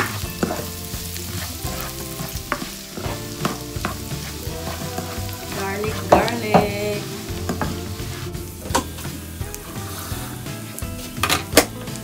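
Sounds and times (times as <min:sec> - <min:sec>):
spatula scraping and knocking pan: 0:00.0 - 0:11.8
meat sizzling in a frying pan: 0:00.0 - 0:12.0.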